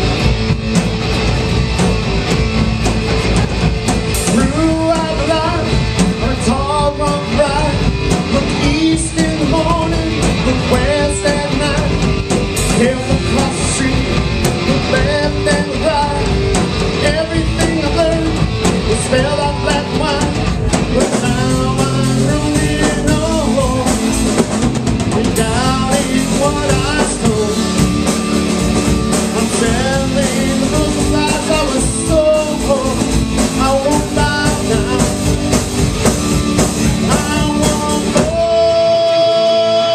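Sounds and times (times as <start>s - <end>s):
bass guitar: 0.0s - 39.9s
drum kit: 0.0s - 39.9s
electric guitar: 0.0s - 39.9s
person singing: 4.2s - 24.3s, 25.0s - 35.8s, 36.5s - 39.9s.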